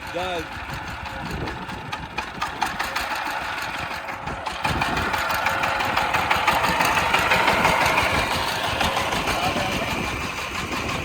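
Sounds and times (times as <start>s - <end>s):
tractor engine knocking: 0.0s - 11.0s.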